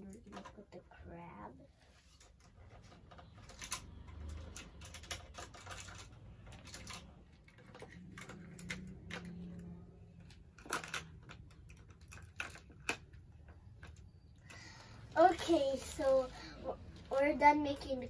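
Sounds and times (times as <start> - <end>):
plastic toy utensils clattering: 0.0 - 0.8, 2.1 - 16.2.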